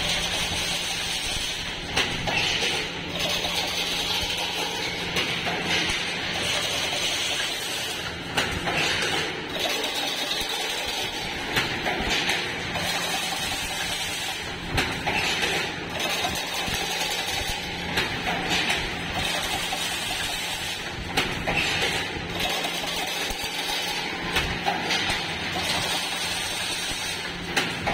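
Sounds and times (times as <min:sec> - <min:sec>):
machine clattering and humming: 0:00.0 - 0:27.9
sharp metallic clicks and knocks: 0:00.0 - 0:27.9.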